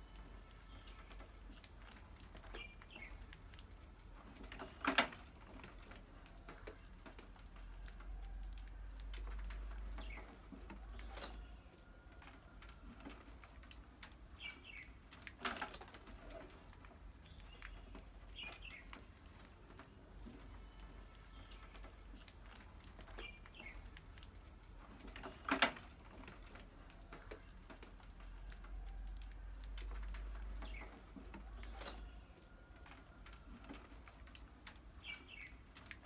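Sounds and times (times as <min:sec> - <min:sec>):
mice scrabbling in wire cage: 0:00.1 - 0:36.0.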